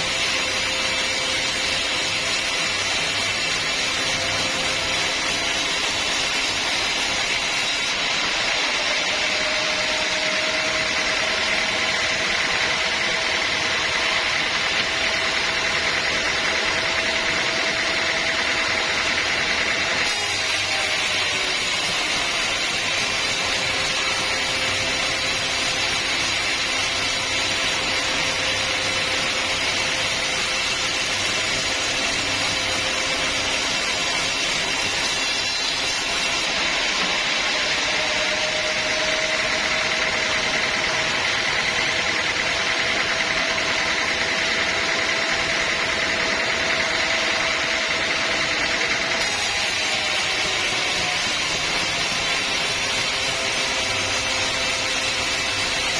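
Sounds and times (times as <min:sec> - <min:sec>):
sawmill saw cutting log: 0:00.0 - 0:55.9.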